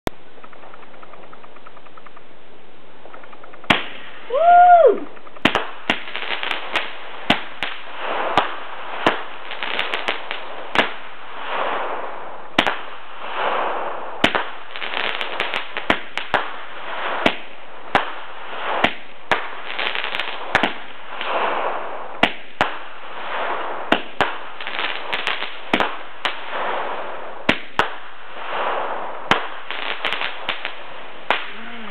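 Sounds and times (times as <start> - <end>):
fireworks banging: 0.1 - 2.3, 3.0 - 31.9.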